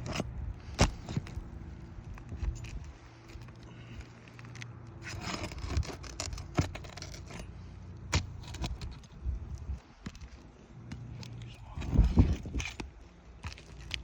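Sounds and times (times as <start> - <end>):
gritty scraping of roof shingles: 0.0 - 14.0.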